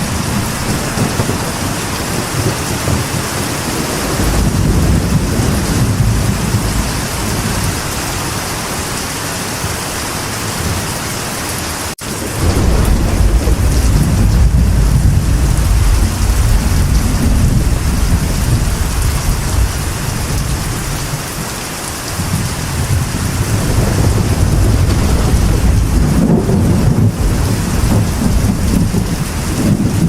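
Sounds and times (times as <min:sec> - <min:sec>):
deep rumble of thunder: 0:00.0 - 0:08.7, 0:12.0 - 0:21.4, 0:22.2 - 0:30.0
rain on a metal roof: 0:00.0 - 0:30.0.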